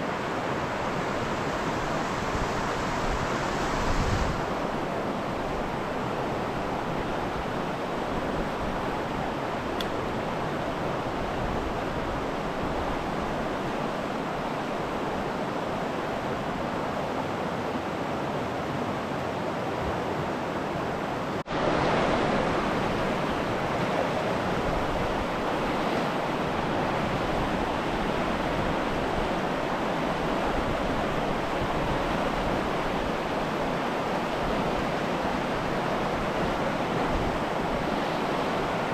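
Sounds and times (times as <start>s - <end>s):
river rapids rushing: 0.0s - 38.9s.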